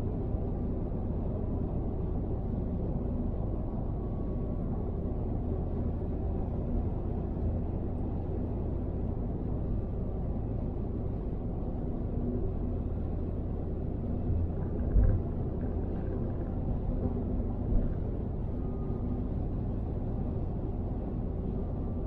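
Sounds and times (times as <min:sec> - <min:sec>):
road and tyre noise: 0:00.0 - 0:22.0.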